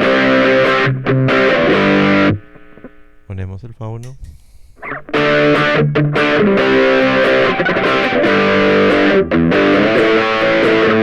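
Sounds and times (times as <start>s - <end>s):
distorted electric guitar chords: 0.0s - 3.3s, 4.7s - 11.0s.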